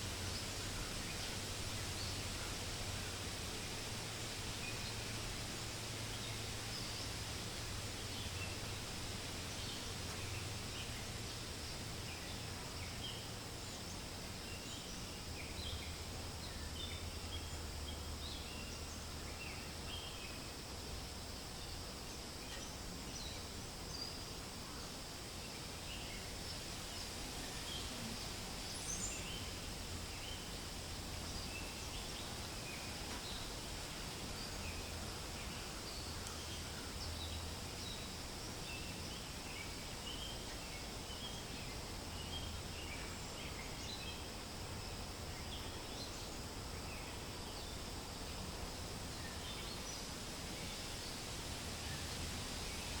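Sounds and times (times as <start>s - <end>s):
wind rustling leaves: 0.0s - 53.0s.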